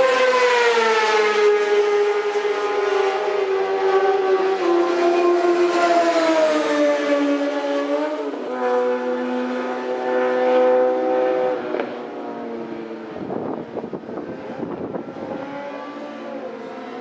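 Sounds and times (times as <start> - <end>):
motorcycle engine at speed: 0.0 - 17.0.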